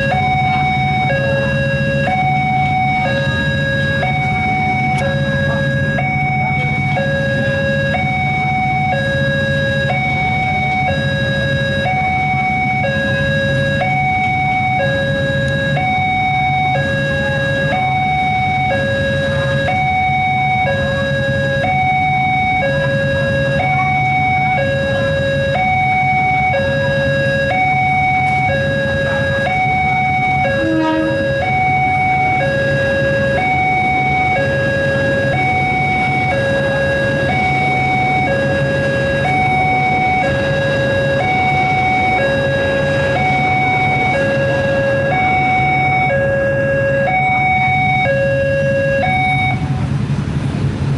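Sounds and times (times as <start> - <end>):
two-tone crossing alarm: 0.0 - 49.9
idling motorcycles and cars: 0.0 - 50.9.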